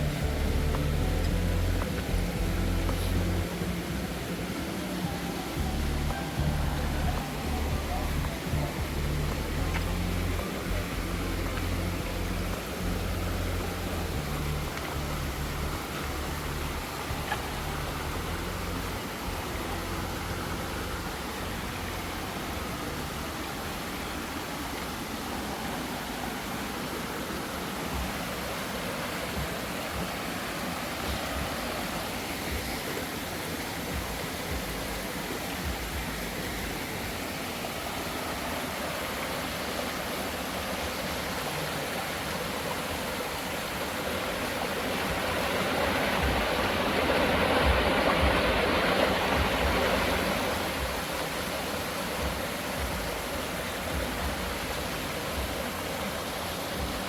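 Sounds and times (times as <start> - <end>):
rush of running water: 0.0 - 57.0.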